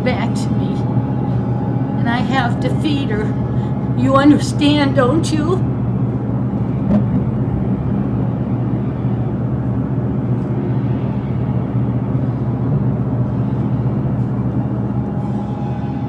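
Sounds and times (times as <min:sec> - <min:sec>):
faint hum: 0:00.0 - 0:16.0
steady low rumble: 0:00.0 - 0:16.0.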